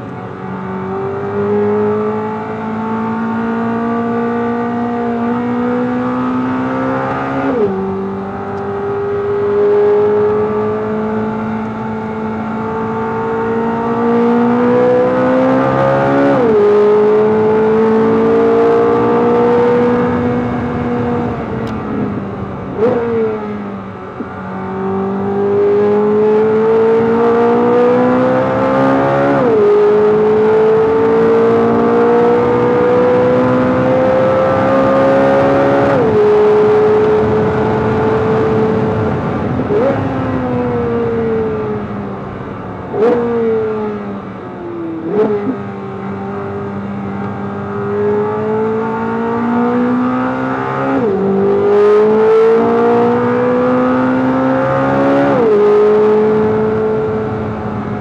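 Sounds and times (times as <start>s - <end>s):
sports car engine at full throttle: 0.0s - 58.0s.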